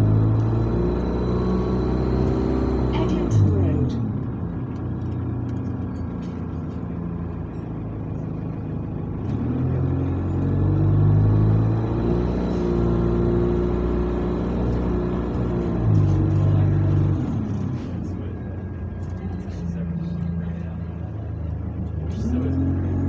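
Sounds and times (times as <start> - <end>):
bus engine from inside: 0.0 - 23.0.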